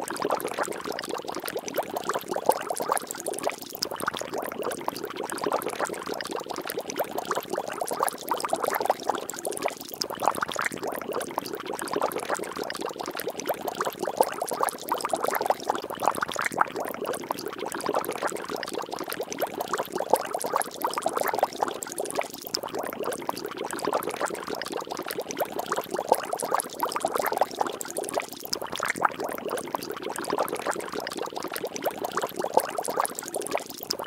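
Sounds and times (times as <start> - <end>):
water bubbling and splashing: 0.0 - 34.0.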